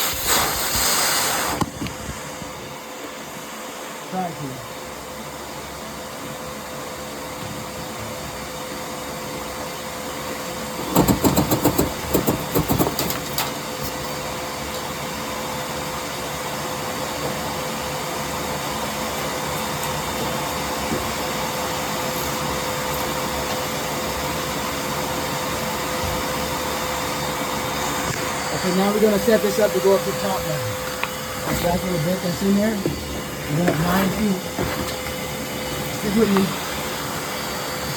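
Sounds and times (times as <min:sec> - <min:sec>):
vacuum motor whine: 0:00.0 - 0:12.6, 0:13.4 - 0:37.9.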